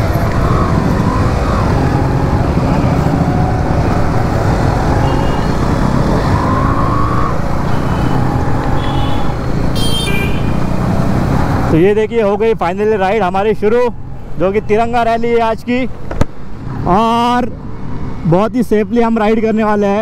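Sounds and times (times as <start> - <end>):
other motorcycles in traffic: 0.0 - 20.0.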